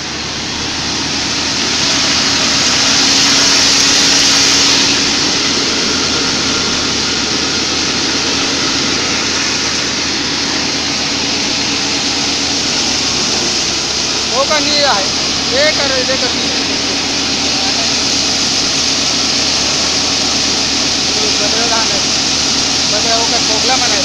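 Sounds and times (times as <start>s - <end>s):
thresher machine rushing: 0.0s - 24.0s.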